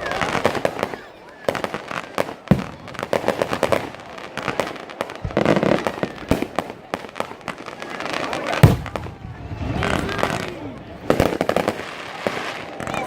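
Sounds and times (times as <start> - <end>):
fireworks bangs: 0.0 - 13.0
fireworks popping and crackling: 0.0 - 13.0.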